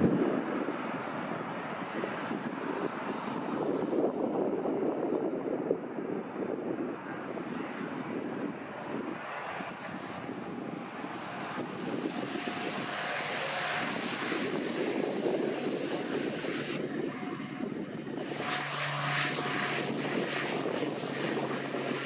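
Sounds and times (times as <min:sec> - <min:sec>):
turboprop aircraft engine: 0:00.0 - 0:22.0.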